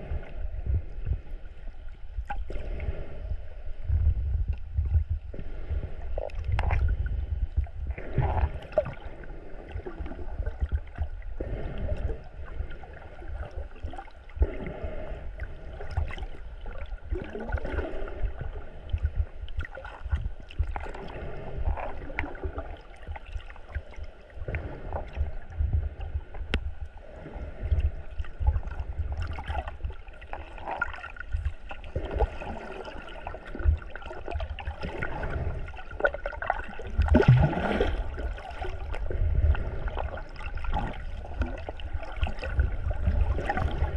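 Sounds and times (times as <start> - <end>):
low rumble: 0.0 - 43.9
water gurgling and sloshing: 0.0 - 43.9.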